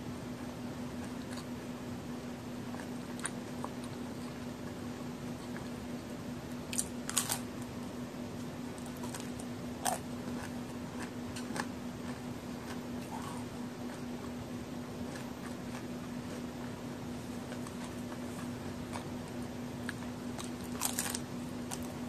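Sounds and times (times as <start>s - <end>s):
steady low hum: 0.0s - 22.0s
cookie crunching while chewing: 1.0s - 1.6s, 2.6s - 7.8s, 8.4s - 22.0s.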